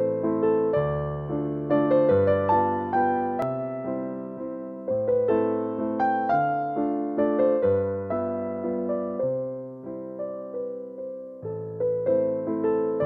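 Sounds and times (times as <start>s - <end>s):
slow keyboard melody: 0.0s - 13.0s.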